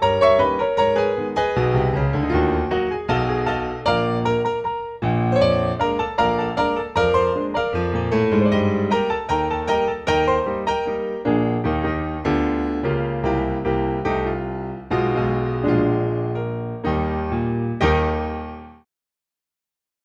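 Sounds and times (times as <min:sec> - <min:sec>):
piano music: 0:00.0 - 0:18.8.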